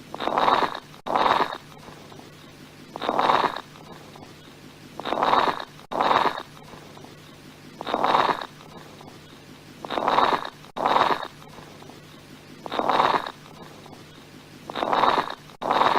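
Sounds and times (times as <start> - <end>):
coarse lung crackles: 0.0 - 15.9.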